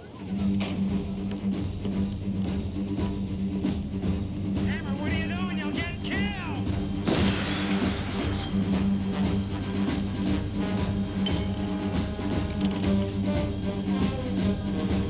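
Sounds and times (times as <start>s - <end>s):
rock music with bass and drums: 0.4s - 15.0s.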